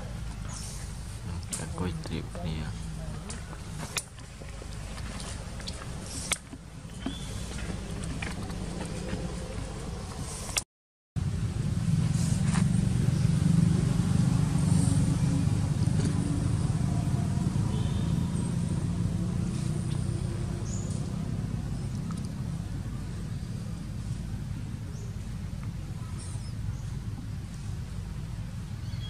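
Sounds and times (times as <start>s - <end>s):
vehicle engine low rumble: 0.0s - 10.6s, 11.2s - 29.0s.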